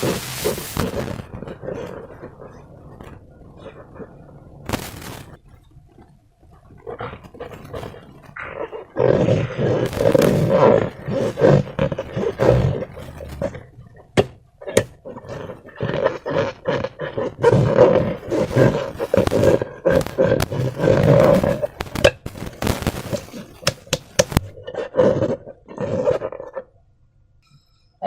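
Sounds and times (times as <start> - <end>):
balloon rubber rasping: 0.0 - 6.1, 6.8 - 26.6
slime squelching: 0.0 - 26.7.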